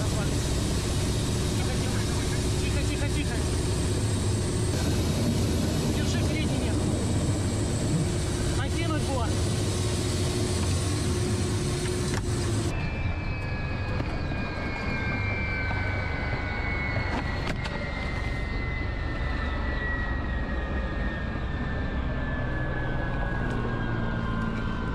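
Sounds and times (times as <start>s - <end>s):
helicopter engine and rotor: 0.0s - 24.9s.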